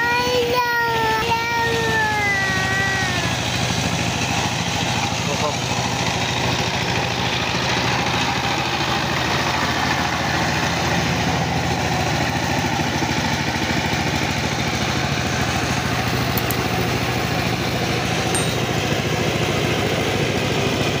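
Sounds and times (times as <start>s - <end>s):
diesel tiller engine chugging: 0.0s - 21.0s.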